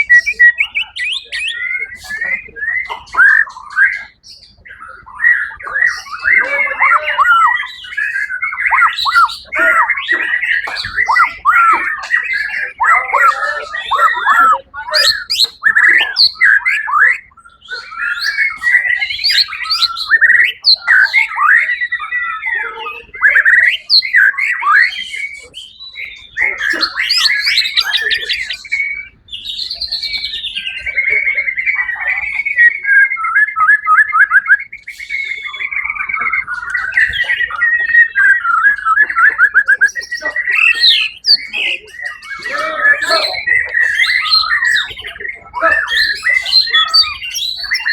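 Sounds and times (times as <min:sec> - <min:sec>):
bird singing whistled phrases: 0:00.0 - 0:47.9.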